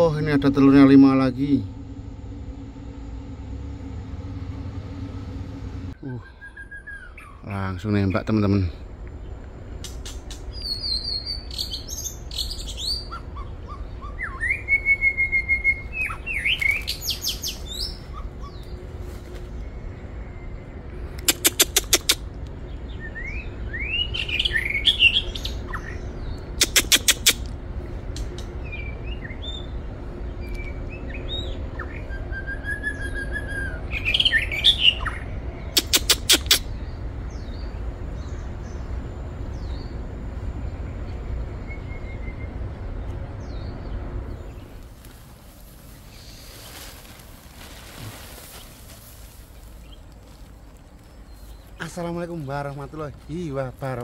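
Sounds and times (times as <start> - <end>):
low rumble: 0.0 - 21.3, 27.4 - 35.8, 36.6 - 51.8.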